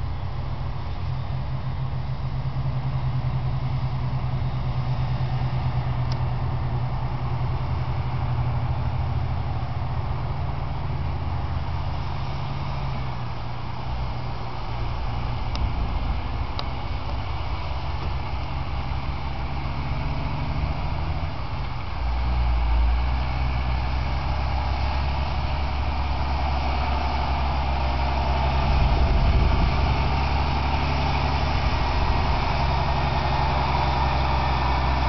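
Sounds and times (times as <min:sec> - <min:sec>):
truck diesel engine droning: 0:00.0 - 0:35.0.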